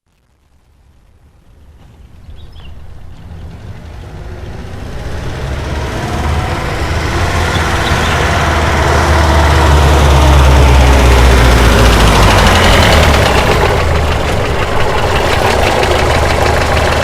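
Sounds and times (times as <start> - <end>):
bus engine rumble: 1.2 - 17.0.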